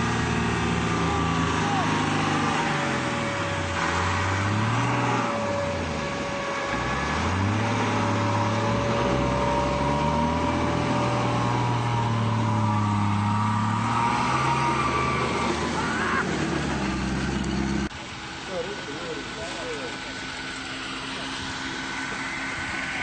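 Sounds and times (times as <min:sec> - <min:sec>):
off-road engine revving: 0:00.0 - 0:23.0.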